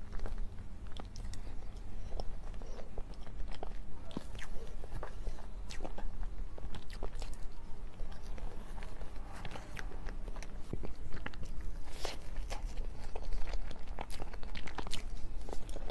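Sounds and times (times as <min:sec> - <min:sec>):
person chewing with mouth clicks: 0:00.0 - 0:15.9.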